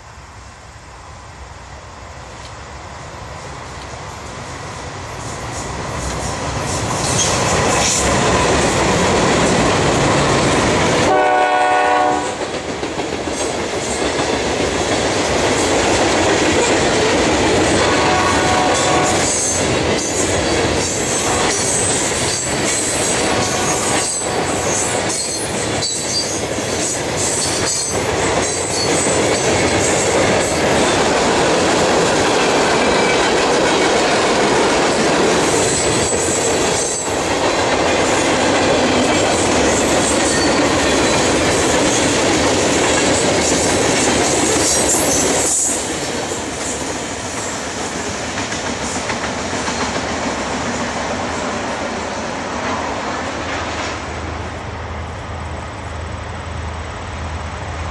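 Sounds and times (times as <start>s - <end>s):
freight cars rolling on rails: 3.2s - 55.7s.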